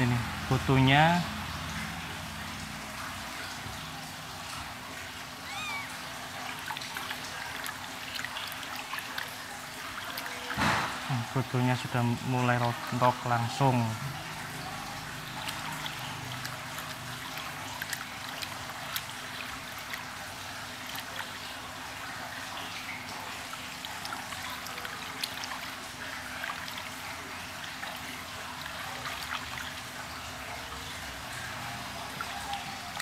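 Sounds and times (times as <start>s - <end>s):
small splashes and drips: 0.0s - 33.0s
water sloshing in plastic tub: 0.0s - 33.0s.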